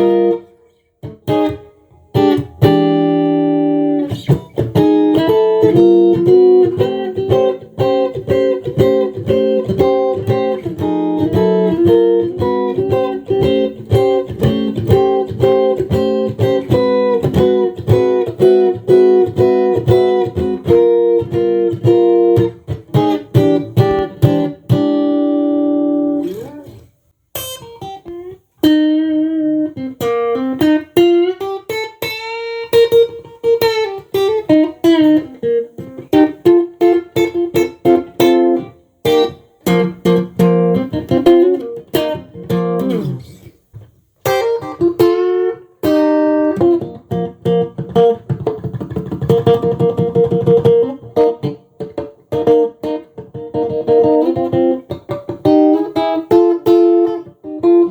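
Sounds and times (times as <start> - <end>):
electric guitar playing: 0.0 - 57.9.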